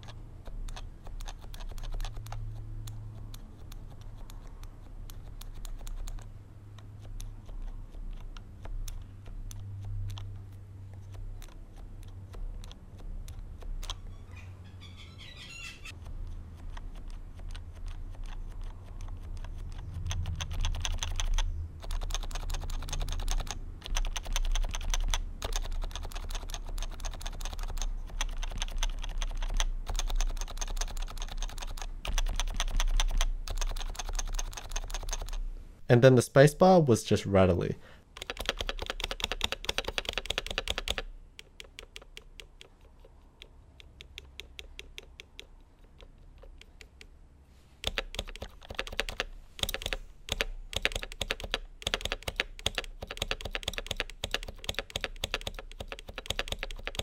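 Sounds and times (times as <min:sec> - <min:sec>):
keyboard typing: 0:00.0 - 0:14.2, 0:15.9 - 0:35.4, 0:38.1 - 0:47.1, 0:47.8 - 0:57.0.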